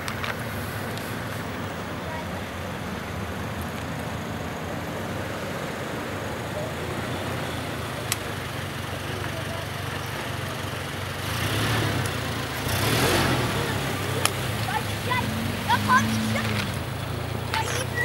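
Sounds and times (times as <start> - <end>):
suv engines running: 0.0 - 18.0.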